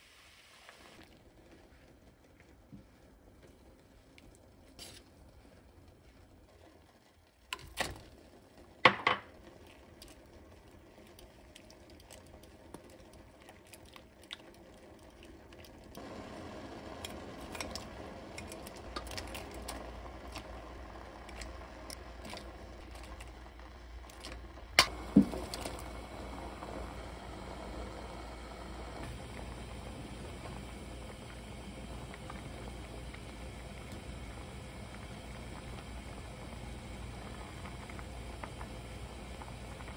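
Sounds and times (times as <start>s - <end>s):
broth simmering and bubbling: 0.0s - 39.9s.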